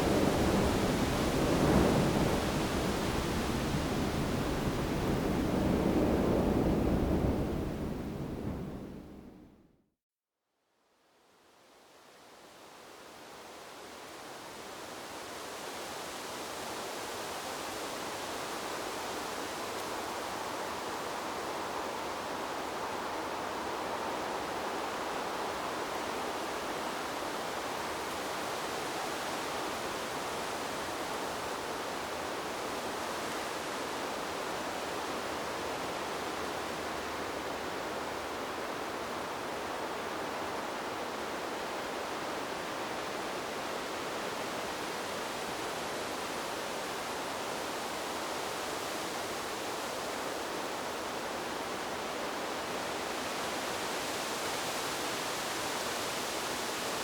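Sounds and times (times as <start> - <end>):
wind rustling bamboo leaves: 0.0 - 9.5, 11.1 - 57.0.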